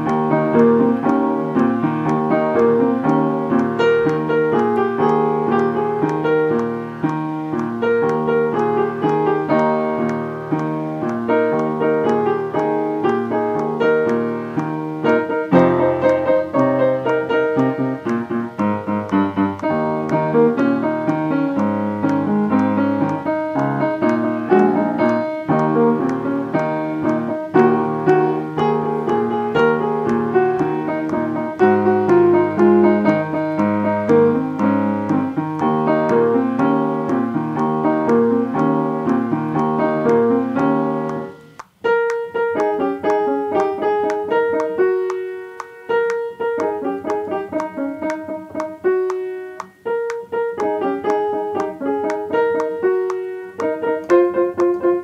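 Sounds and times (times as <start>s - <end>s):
piano playing full chords: 0.0s - 55.0s.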